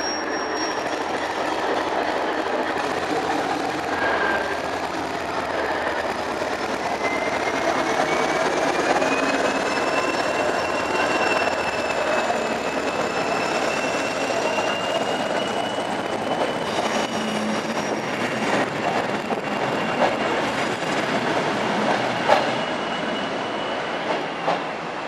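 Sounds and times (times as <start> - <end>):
train wheels squealing: 0.0 - 25.0
train rumble: 0.8 - 25.0.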